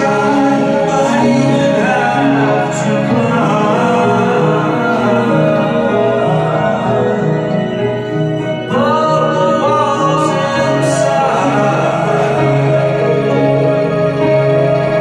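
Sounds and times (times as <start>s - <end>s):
guitar: 0.0s - 15.0s
held electronic chords: 0.0s - 15.0s
person singing wavering line: 0.0s - 15.0s.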